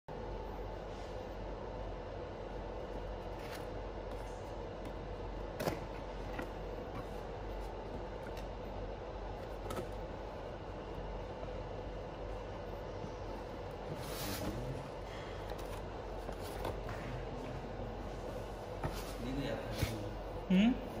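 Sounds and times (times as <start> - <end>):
steady background hum: 0.1 - 21.0.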